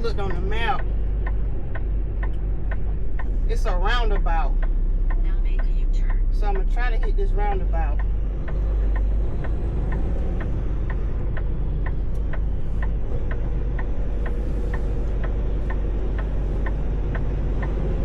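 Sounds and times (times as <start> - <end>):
diesel engine drone: 0.0 - 18.0
turn signal clicking: 0.0 - 18.0.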